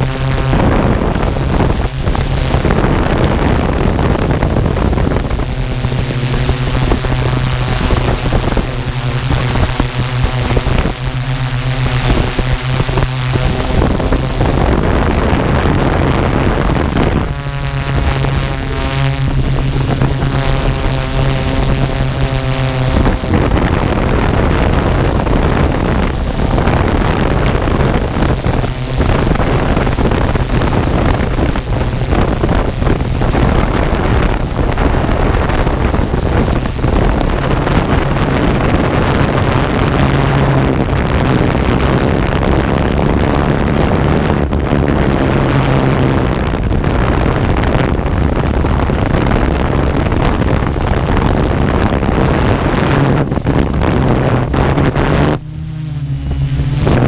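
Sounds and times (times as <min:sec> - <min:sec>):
drone propellers humming: 0:00.0 - 0:57.0
wind buffeting microphone: 0:00.0 - 0:57.0.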